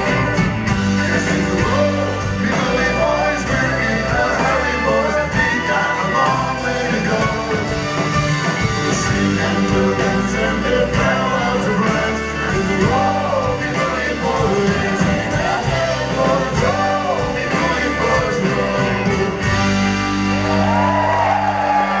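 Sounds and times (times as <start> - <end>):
man singing: 0.0 - 8.0, 8.8 - 19.6
drums: 0.0 - 22.0.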